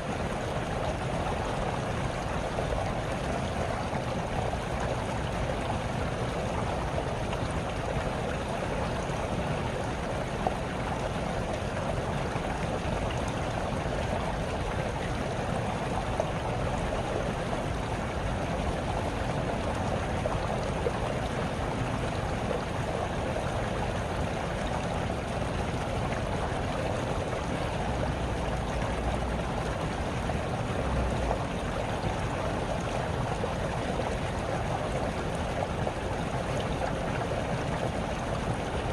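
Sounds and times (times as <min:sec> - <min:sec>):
stream babbling over stones: 0:00.1 - 0:38.9.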